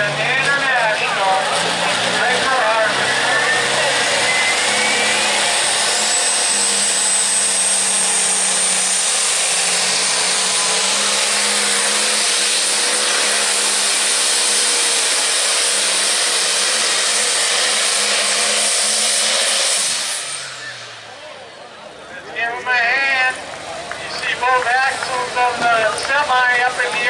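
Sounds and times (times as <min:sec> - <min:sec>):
diesel engine at full throttle: 0:00.0 - 0:27.0.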